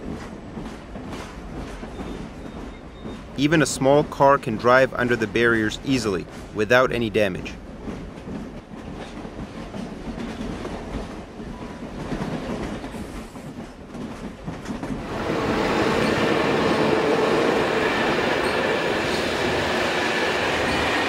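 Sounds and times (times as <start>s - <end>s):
train running on rails: 0.0s - 21.0s.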